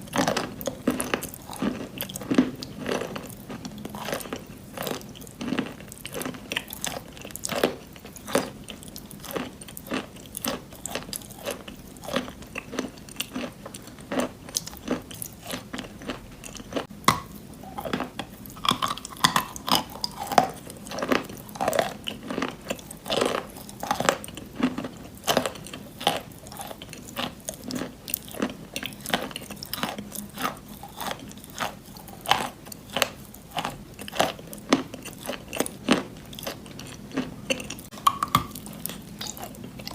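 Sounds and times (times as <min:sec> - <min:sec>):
chewing and crunching chalk: 0:00.0 - 0:39.9.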